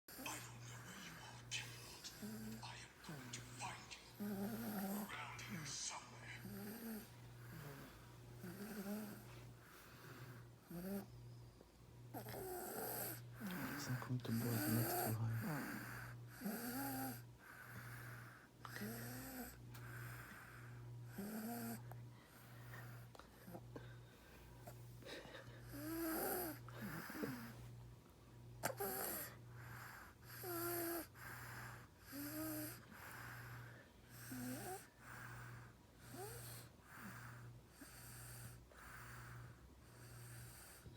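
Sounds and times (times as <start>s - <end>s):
baby snoring with wheeze: 0.1s - 11.2s, 12.1s - 23.6s, 25.7s - 27.6s, 28.6s - 40.9s.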